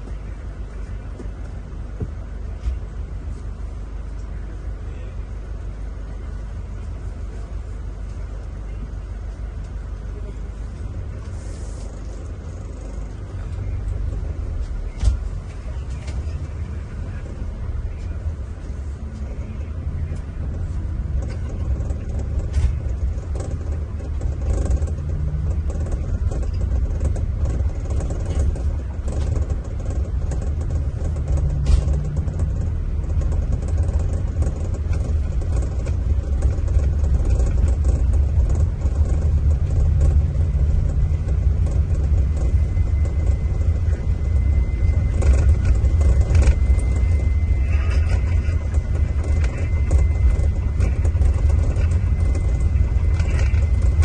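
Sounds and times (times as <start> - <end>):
diesel coach engine rumbling: 0.0 - 54.0
road noise: 0.0 - 54.0.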